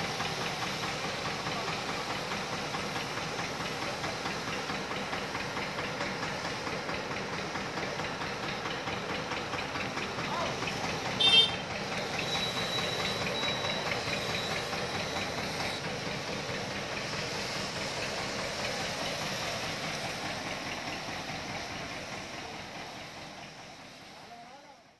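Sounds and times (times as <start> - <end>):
tractor engine running: 0.0 - 24.0
hose spray hissing: 0.0 - 24.9.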